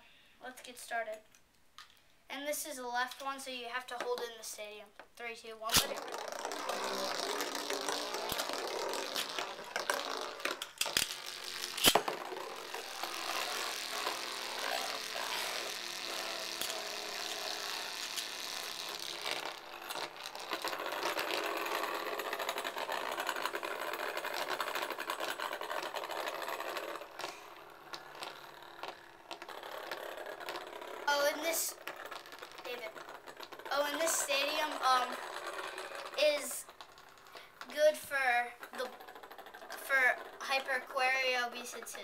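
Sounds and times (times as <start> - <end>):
spinning tops whirring and rattling: 5.6 - 42.0
spinning tops clacking together: 5.7 - 42.0.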